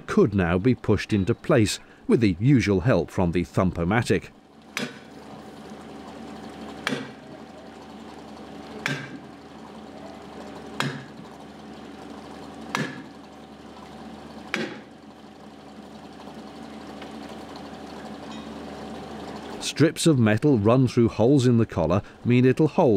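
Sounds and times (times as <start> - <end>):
steady machine hum: 0.0 - 22.9.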